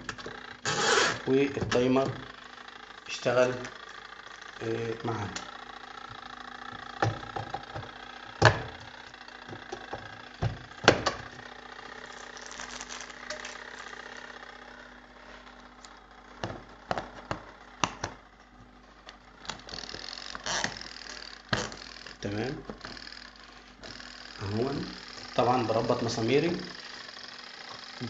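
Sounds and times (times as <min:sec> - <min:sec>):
washing machine motor humming: 0:00.0 - 0:28.0.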